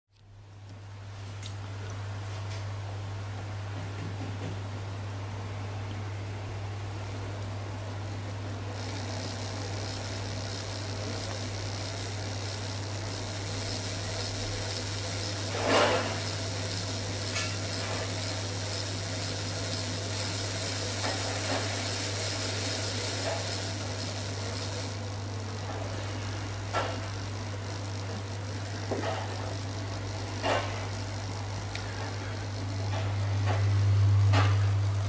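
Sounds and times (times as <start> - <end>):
model train motor whirring: 6.9 - 35.0.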